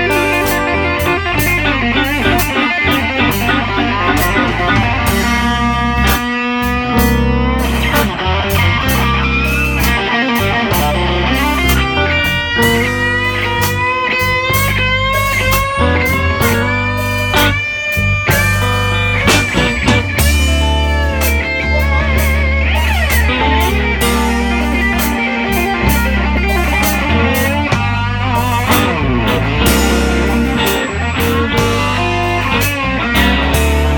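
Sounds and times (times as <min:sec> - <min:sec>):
electric blues band playing: 0:00.0 - 0:33.9
lead electric guitar bending notes: 0:00.0 - 0:33.9.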